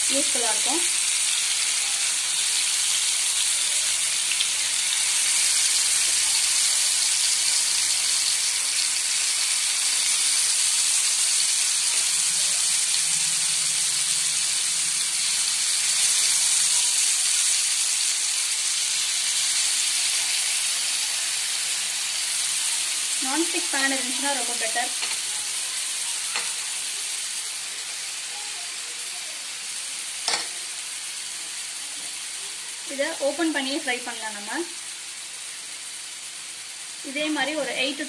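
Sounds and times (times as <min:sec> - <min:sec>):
chicken sizzling in hot oil: 0:00.0 - 0:38.0.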